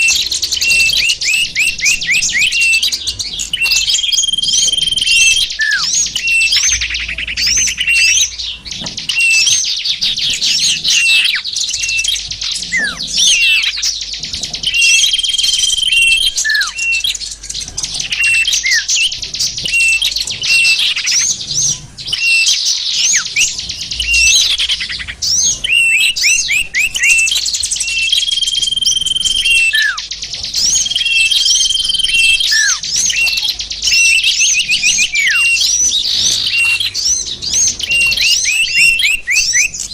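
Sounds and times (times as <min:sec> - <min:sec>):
high bird whistles: 0:00.0 - 0:39.9
songbirds chirping and trilling: 0:00.0 - 0:39.9.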